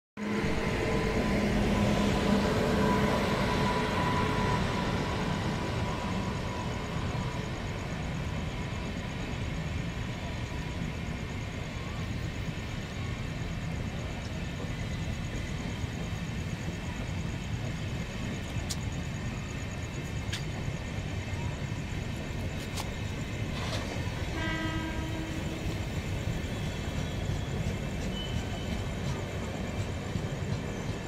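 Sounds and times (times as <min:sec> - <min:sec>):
approaching train: 0:00.2 - 0:31.0
train rumbling on rails: 0:00.2 - 0:31.0.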